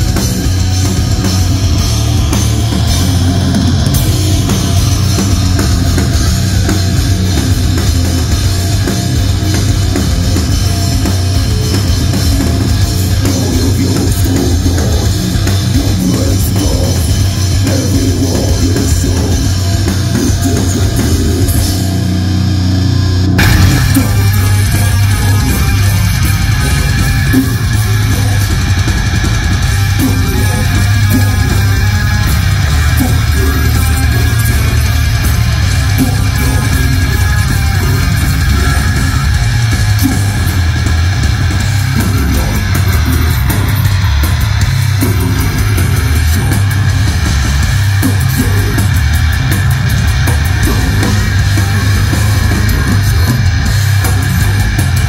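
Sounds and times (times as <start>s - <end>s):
drums: 0.0s - 55.0s
electric guitar: 0.0s - 55.0s.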